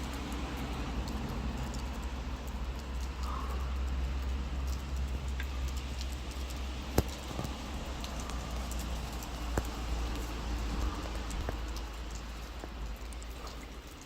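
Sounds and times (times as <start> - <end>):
raindrops ticking: 0.0 - 14.0.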